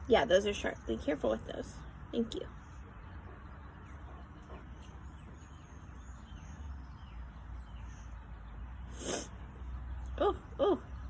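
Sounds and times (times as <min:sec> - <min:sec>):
faint distant birds chirping: 0:00.0 - 0:11.0.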